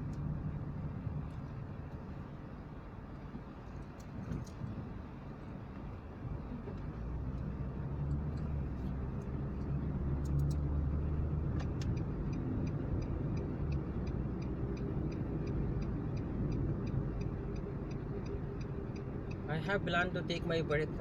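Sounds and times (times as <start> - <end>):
engine and road rumble: 0.0 - 21.0
turn signal ticking: 0.0 - 21.0.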